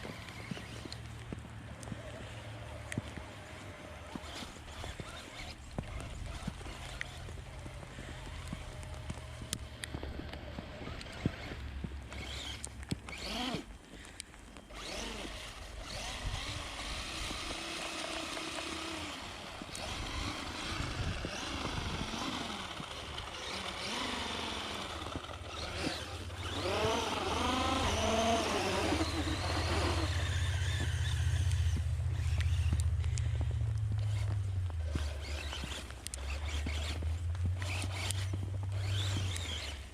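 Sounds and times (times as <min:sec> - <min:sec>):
small electric motor whine: 0:00.0 - 0:39.9
snow crackling under wheels: 0:00.0 - 0:39.9.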